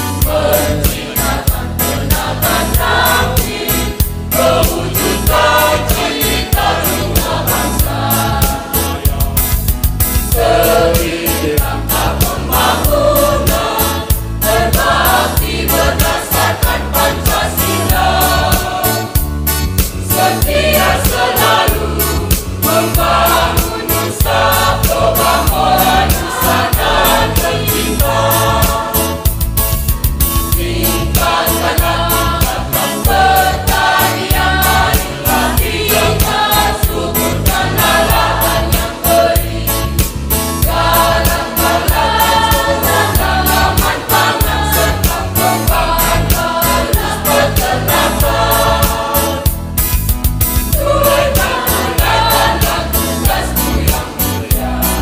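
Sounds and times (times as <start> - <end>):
group singing a march: 0.0 - 29.4, 30.5 - 49.6, 50.7 - 55.0
accompaniment with steady beat: 0.0 - 55.0.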